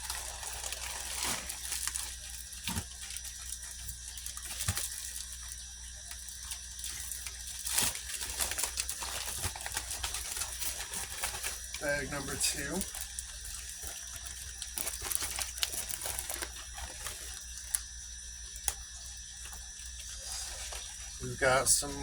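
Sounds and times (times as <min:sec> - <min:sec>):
packing material rustling: 0:00.0 - 0:22.0
steady low hum: 0:00.0 - 0:22.0.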